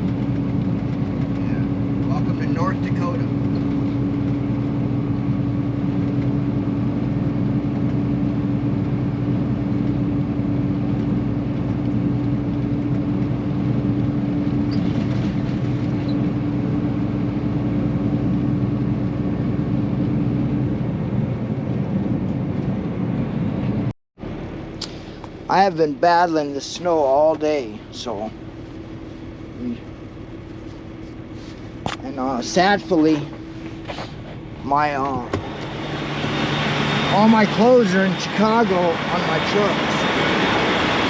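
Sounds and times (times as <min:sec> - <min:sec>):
road and tyre noise: 0:00.0 - 0:41.0
truck engine drone: 0:00.0 - 0:41.0.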